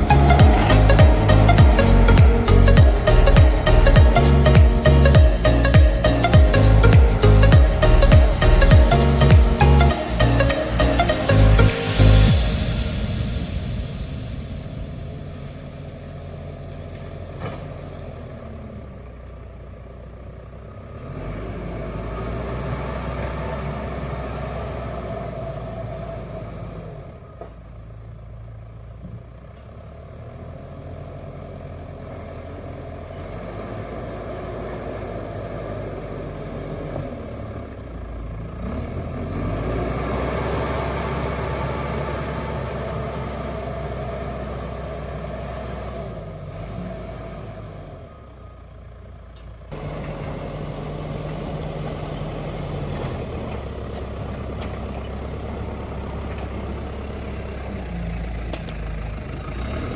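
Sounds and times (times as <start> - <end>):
construction machine diesel engine: 0.0 - 59.9.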